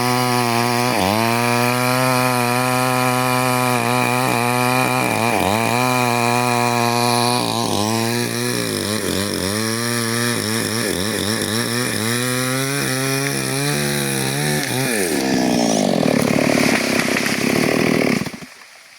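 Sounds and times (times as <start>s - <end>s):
chainsaw cutting wood: 0.0s - 18.7s.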